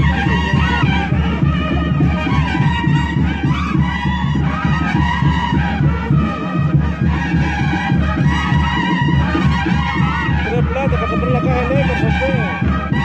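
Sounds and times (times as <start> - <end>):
live band playing dance music: 0.0 - 13.0.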